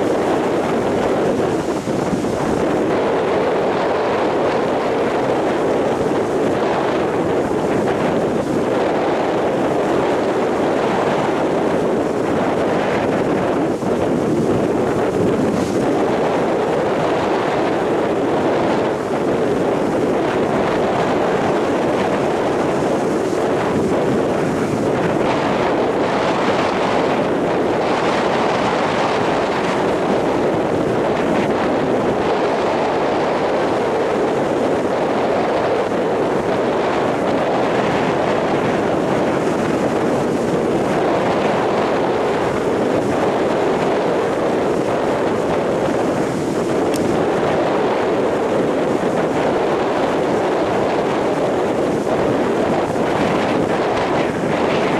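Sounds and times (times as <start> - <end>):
strong wind on microphone: 0.0 - 54.9
surf breaking on beach: 0.0 - 54.9.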